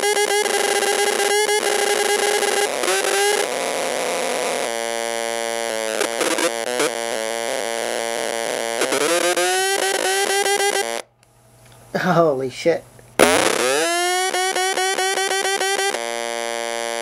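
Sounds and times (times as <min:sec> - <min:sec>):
speaker buzzing electronic tones: 0:00.0 - 0:11.2, 0:13.2 - 0:17.0.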